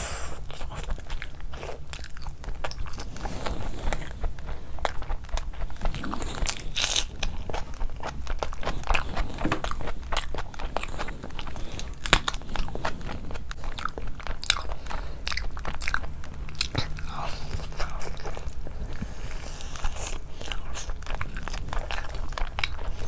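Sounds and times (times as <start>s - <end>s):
chewing with crunches: 0.0s - 23.0s.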